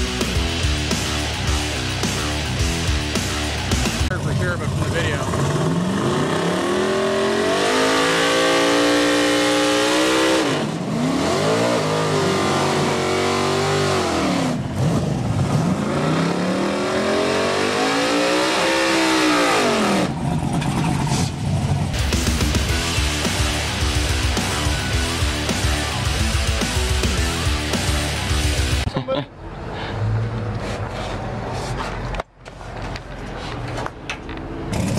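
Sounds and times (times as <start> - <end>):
race car engine revving: 0.0 - 28.9.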